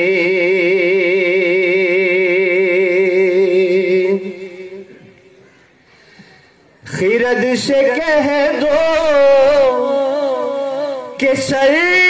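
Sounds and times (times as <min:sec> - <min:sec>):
man singing into a microphone: 0:00.0 - 0:05.4, 0:06.8 - 0:12.0.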